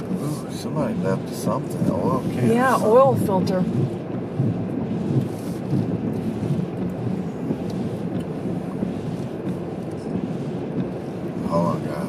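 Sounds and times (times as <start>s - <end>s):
car driving rumble: 0.0s - 12.0s
rain: 0.0s - 12.0s.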